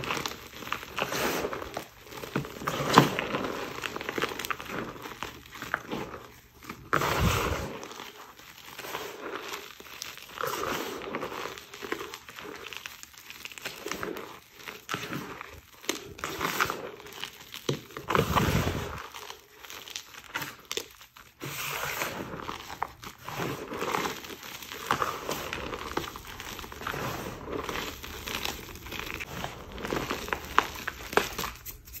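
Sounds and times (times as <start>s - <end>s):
crunching and powdery rustling: 0.0s - 32.0s.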